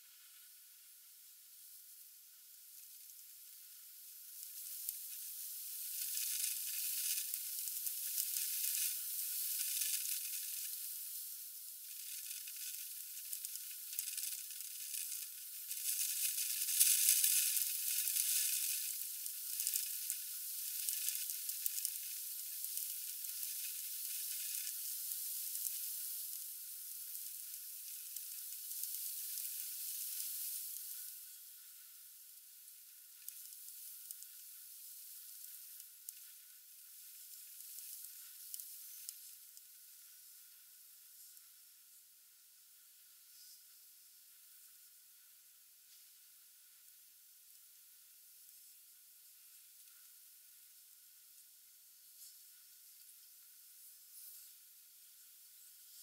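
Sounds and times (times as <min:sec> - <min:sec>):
rain hiss on window: 0:00.0 - 0:56.0.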